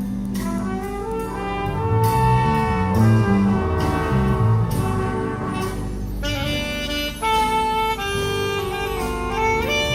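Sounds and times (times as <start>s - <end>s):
brass section melody: 0.0s - 9.9s
walking bass line: 0.0s - 9.9s.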